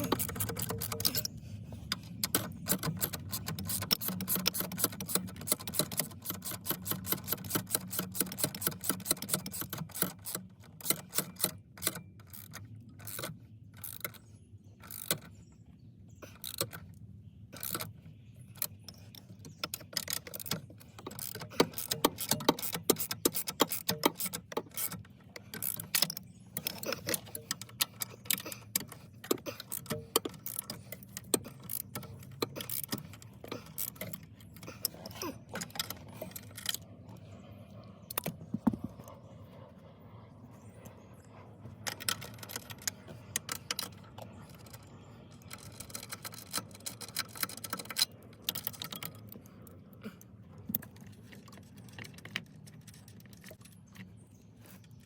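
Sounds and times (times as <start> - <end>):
steering wheel parts clicking: 0.0 - 37.4, 38.0 - 39.2, 40.8 - 55.0
low steady hum: 0.0 - 55.0.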